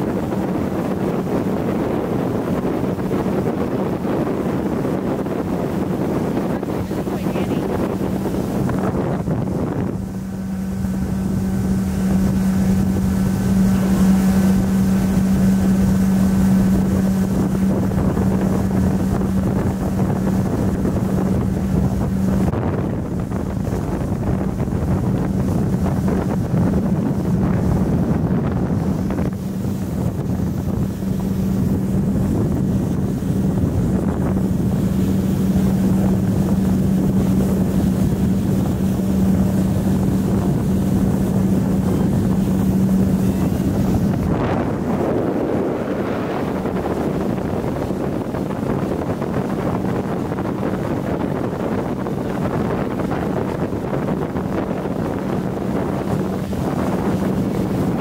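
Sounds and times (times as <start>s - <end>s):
boat motor humming: 0.0s - 58.0s
water noise: 0.0s - 58.0s
wind buffeting microphone: 0.0s - 58.0s.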